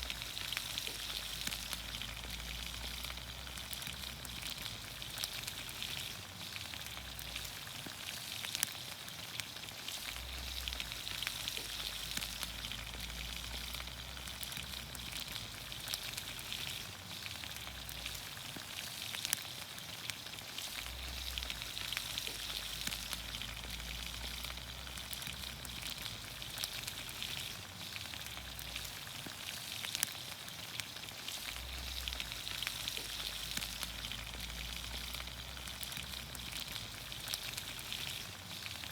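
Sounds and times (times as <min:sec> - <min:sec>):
vegetables sizzling in oil: 0:00.0 - 0:38.9.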